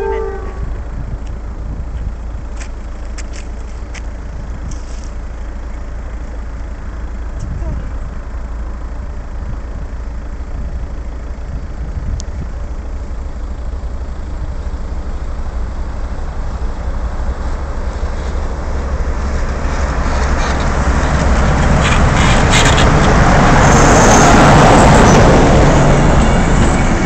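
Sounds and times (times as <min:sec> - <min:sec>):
train deep rumble: 0:00.0 - 0:27.0.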